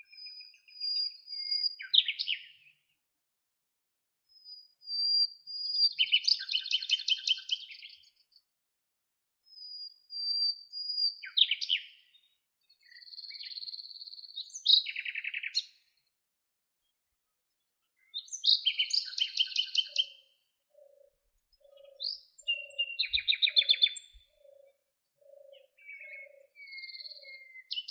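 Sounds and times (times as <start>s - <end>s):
songbirds whistling and trilling: 0.0s - 3.0s, 4.3s - 8.5s, 9.4s - 16.1s, 17.2s - 27.9s.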